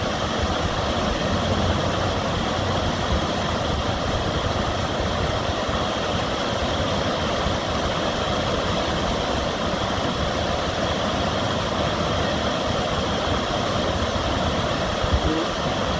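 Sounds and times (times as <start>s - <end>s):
water rushing over weir: 0.0s - 15.9s.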